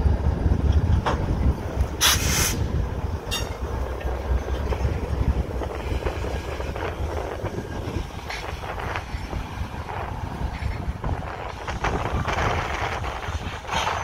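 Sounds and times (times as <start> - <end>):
freight train rumbling past: 0.0 - 14.0
train wheels clicking over track: 0.6 - 14.0.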